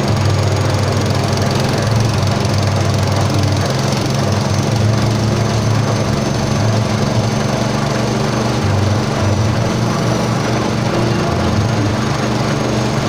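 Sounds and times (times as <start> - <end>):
pellet machine motor droning: 0.0 - 13.0.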